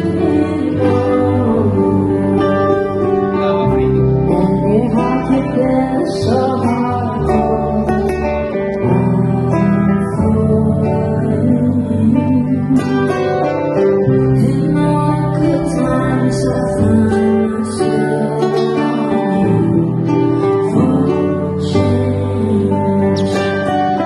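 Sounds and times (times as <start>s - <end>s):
person singing: 0.0s - 24.0s
steady bass: 0.0s - 24.0s
strummed acoustic guitar: 0.0s - 24.0s.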